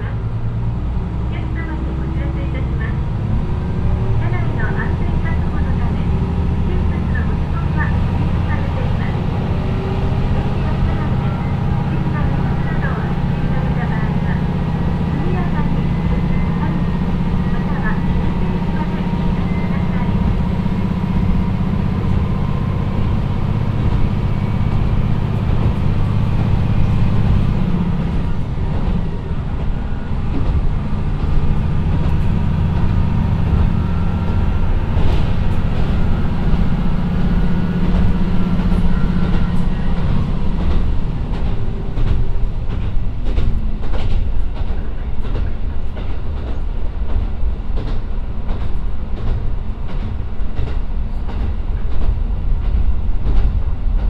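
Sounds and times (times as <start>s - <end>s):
low diesel engine drone: 0.0s - 54.0s.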